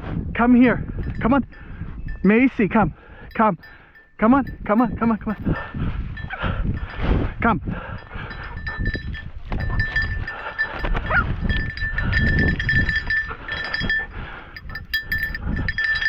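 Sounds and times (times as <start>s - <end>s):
small bell jingling: 0.8s - 7.0s, 7.8s - 16.0s.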